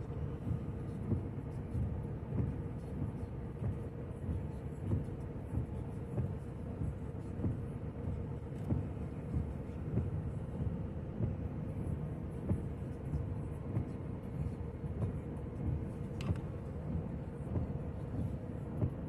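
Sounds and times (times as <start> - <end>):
road and engine rumble in car: 0.0 - 19.0.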